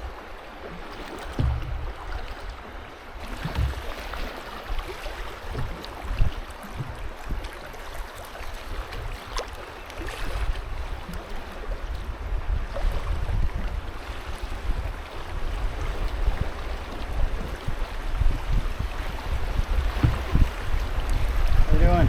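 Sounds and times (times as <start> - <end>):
river water rushing and splashing: 0.0 - 22.0
wind rumbling on microphone: 0.0 - 22.0.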